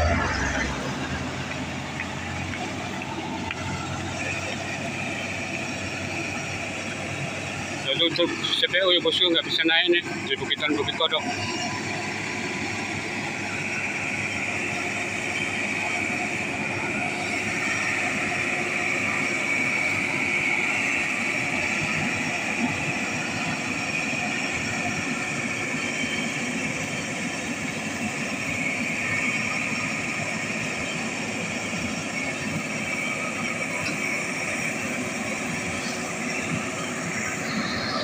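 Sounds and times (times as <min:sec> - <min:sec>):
diesel truck engine running: 0:00.0 - 0:38.0
high-pitched whine: 0:00.0 - 0:38.0.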